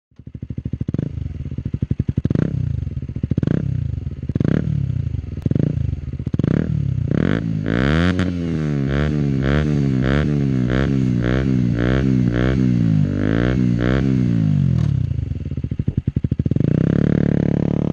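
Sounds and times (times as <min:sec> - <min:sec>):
motorcycle engine throttle blips: 0:00.1 - 0:17.9.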